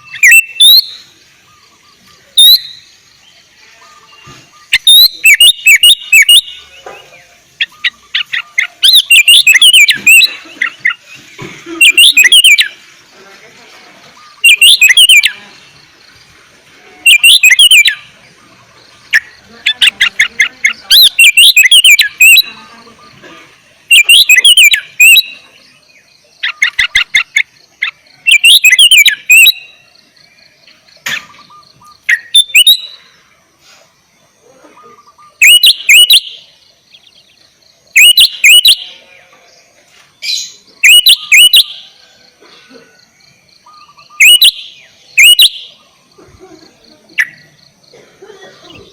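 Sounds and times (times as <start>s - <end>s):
bulbul singing: 0.0s - 33.4s, 34.2s - 48.9s.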